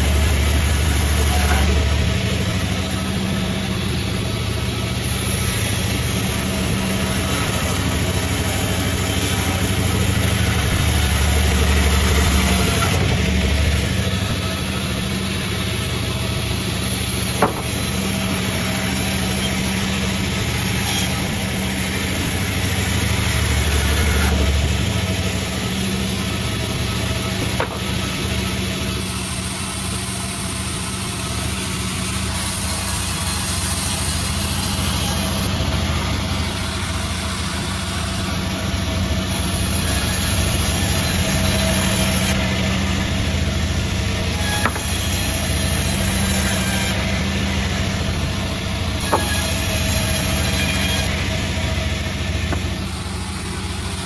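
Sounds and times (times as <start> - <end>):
sawmill machine drone: 0.0 - 54.0.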